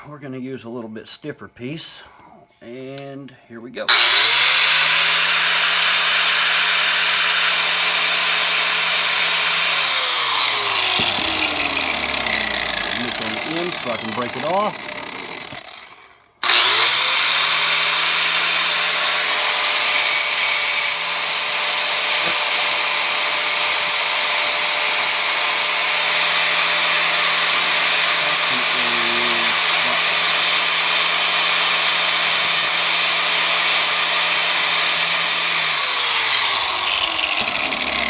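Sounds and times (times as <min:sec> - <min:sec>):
angle grinder cutting metal: 0:03.9 - 0:38.0.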